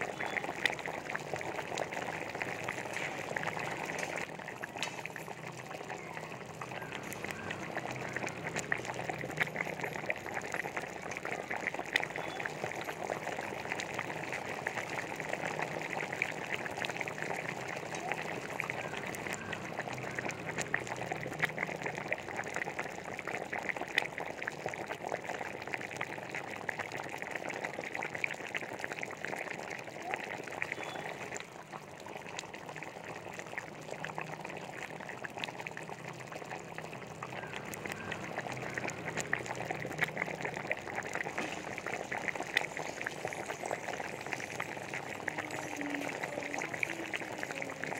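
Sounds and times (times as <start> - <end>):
gravy simmering and bubbling: 0.0 - 47.9.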